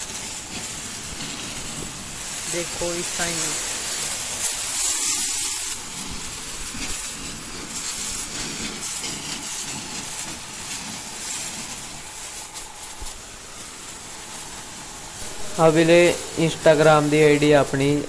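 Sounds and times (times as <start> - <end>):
hose spray hissing on metal: 0.0 - 18.0.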